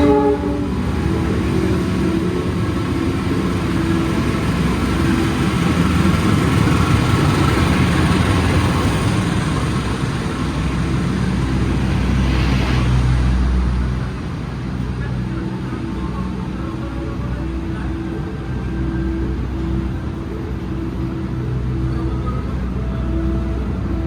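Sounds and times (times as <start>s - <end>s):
diesel locomotive engine hum: 0.0s - 24.0s
train rolling on rails: 0.0s - 24.0s.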